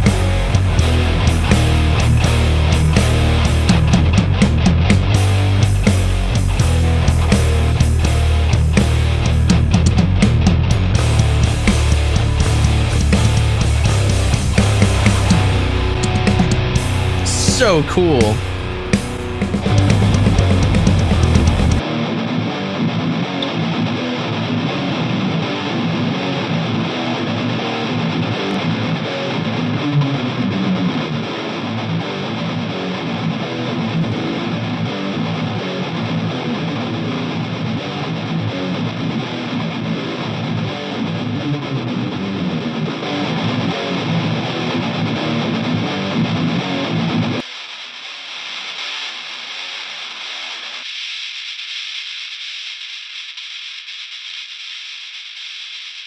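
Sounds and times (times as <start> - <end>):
electric guitar strummed chords: 0.0 - 50.8.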